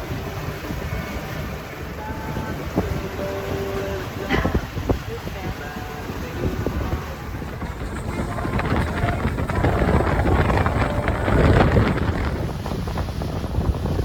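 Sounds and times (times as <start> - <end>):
boat running on water: 0.0 - 14.0
wind buffeting microphone: 0.0 - 14.0.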